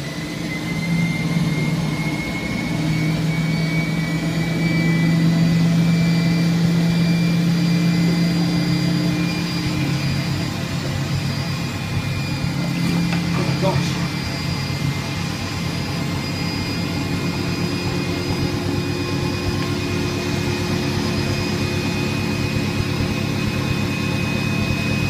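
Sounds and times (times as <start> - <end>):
spin dryer motor humming: 0.0 - 25.0.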